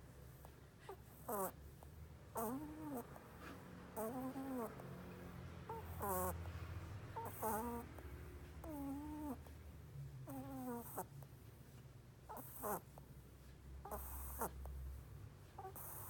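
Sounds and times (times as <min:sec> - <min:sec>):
rabbit snoring squeaks: 0:00.0 - 0:11.4, 0:12.2 - 0:13.2, 0:13.8 - 0:16.0.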